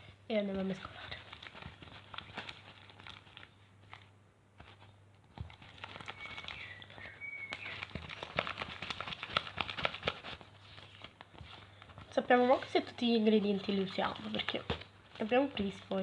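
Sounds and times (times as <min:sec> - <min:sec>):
slime being stirred in a bowl: 0:00.0 - 0:16.0.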